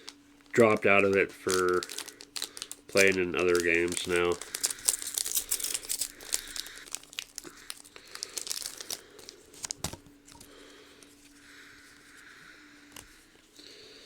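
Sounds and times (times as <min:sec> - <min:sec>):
foil wrappers crinkling and tearing: 0:00.0 - 0:12.2.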